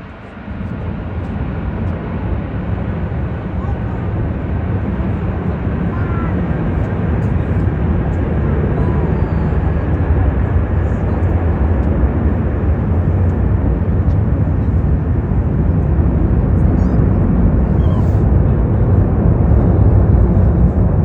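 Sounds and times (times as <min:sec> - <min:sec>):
deep jet engine roar: 0:00.0 - 0:21.0.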